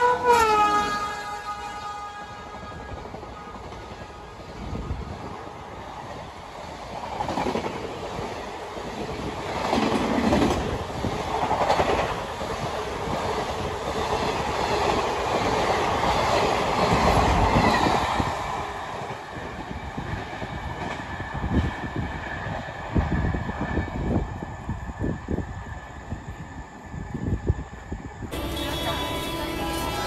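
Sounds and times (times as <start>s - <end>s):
train coaches rumbling past: 0.0s - 30.0s.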